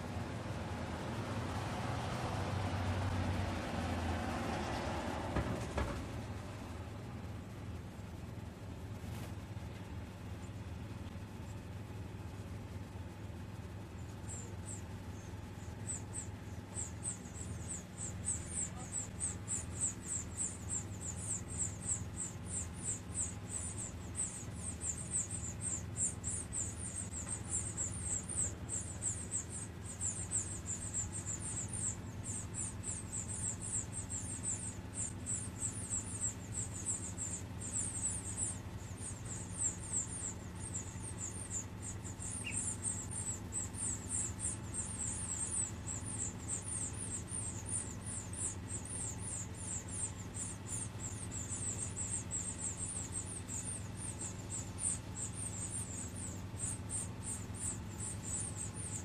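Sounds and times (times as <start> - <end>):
nestling birds peeping: 0.0 - 59.0
steady low hum: 0.0 - 59.0.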